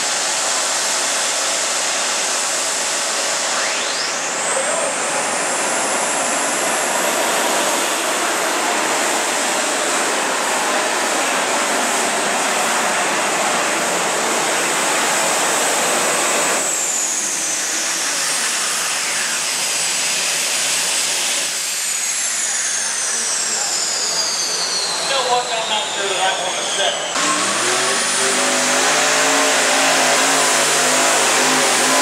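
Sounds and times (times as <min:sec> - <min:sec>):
high whine: 0:00.0 - 0:32.0.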